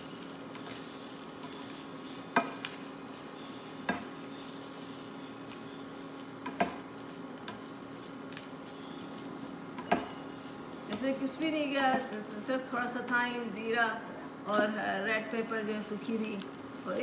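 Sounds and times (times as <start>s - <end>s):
spatula stirring in frying pan: 0.0s - 15.4s
frying sizzle: 0.0s - 17.0s.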